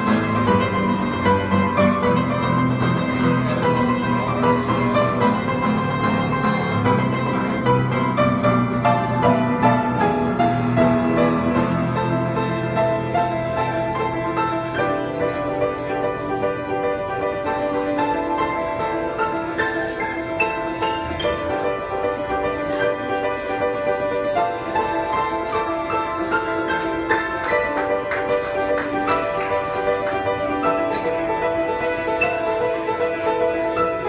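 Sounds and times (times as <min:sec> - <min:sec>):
solo piano playing: 0:00.0 - 0:34.0.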